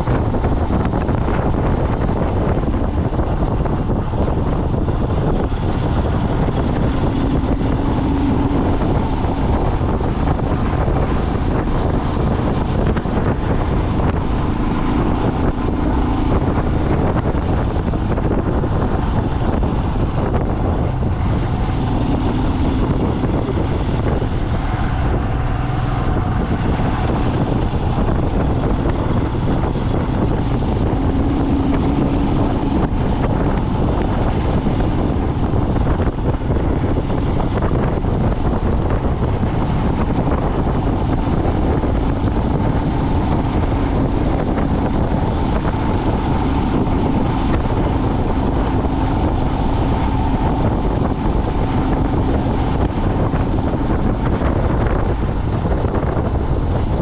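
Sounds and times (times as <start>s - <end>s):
road noise: 0.0s - 57.0s
vehicle engine: 0.0s - 57.0s
wind buffeting microphone: 0.0s - 57.0s.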